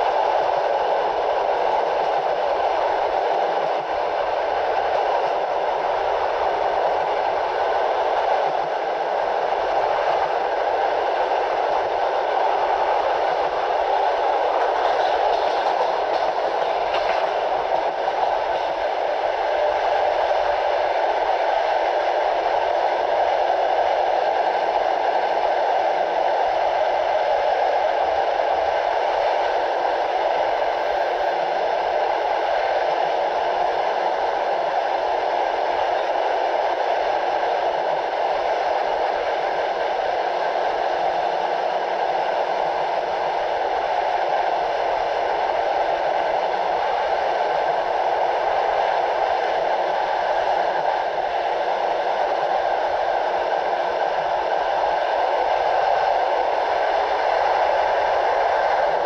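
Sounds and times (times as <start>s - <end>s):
train coach rushing on rails: 0.0s - 59.0s.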